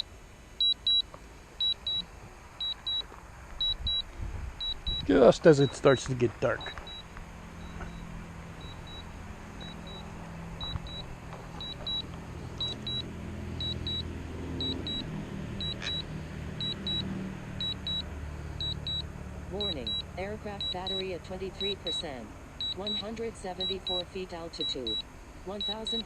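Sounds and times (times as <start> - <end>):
low hum: 0.0 - 26.0
remote controller beeping: 0.6 - 3.0, 3.6 - 4.0, 4.6 - 6.0, 6.8 - 17.0, 17.6 - 18.0, 18.6 - 19.0, 19.6 - 22.0, 22.6 - 26.0.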